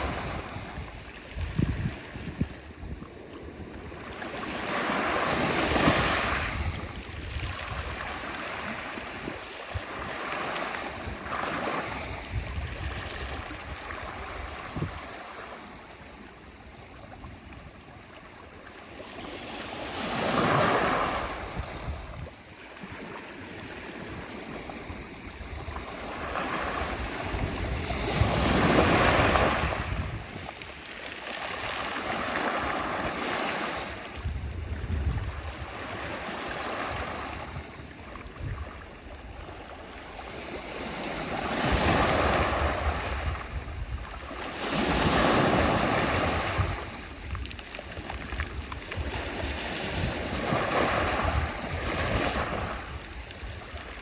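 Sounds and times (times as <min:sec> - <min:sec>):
wind rumble on microphone: 0:00.0 - 0:18.0, 0:19.9 - 0:54.0
sea waves breaking on shore: 0:00.0 - 0:54.0.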